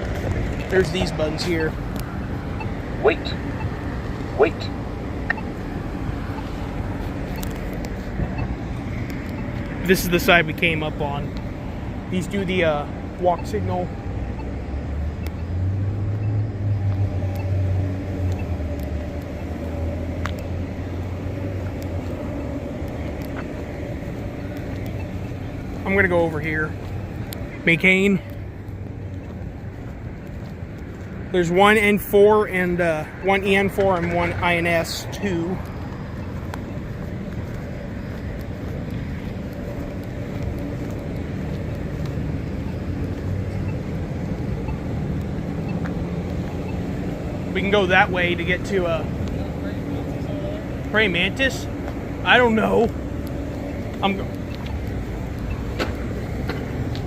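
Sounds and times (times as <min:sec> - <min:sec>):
steady traffic hum: 0:00.0 - 0:57.0
vehicle engine rumble: 0:00.0 - 0:57.0.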